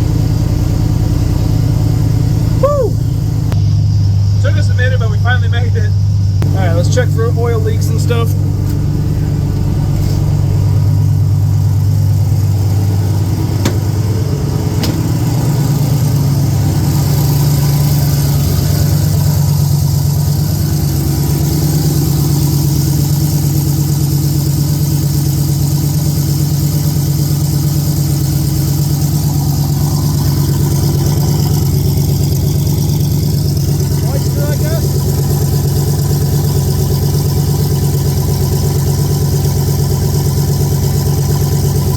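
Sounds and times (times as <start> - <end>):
pickup engine idling: 0.0 - 41.9.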